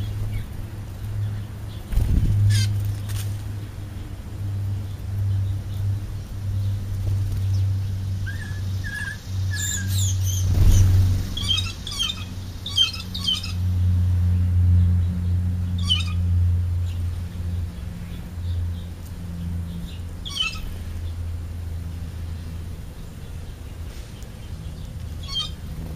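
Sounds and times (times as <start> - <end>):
sparrows chirping: 0.0 - 25.9
steady low hum: 0.0 - 25.9.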